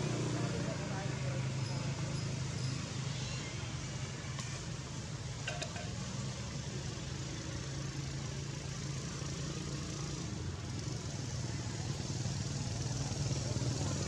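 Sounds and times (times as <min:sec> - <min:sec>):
continuous hiss: 0:02.3 - 0:14.0.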